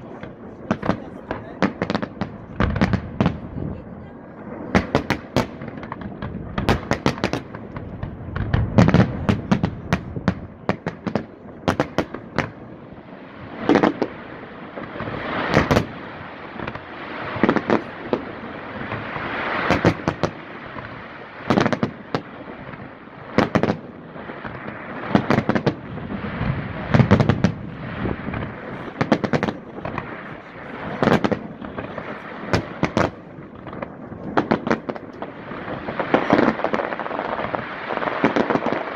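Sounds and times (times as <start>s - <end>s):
fireworks crackling and rumble: 0.0s - 38.9s.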